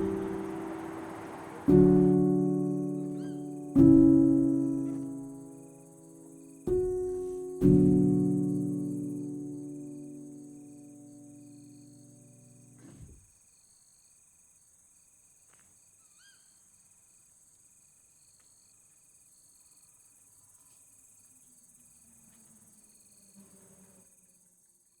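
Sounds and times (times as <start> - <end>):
cricket-like trills: 0.0 - 25.0
insects buzzing: 0.0 - 25.0.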